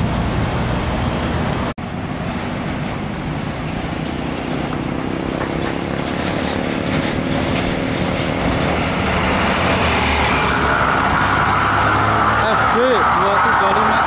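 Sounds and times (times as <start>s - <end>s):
truck diesel engine running: 0.0s - 13.9s
road noise: 0.0s - 14.0s.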